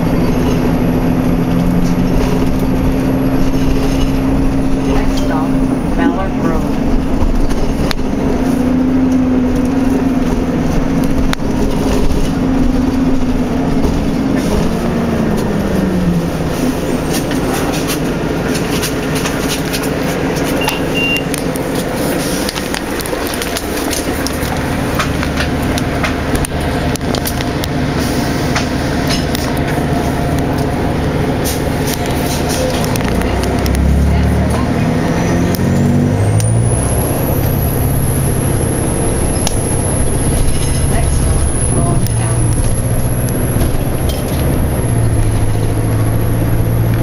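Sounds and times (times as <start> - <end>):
bus engine whine: 0.0 - 47.0
road and body rattle: 0.0 - 47.0.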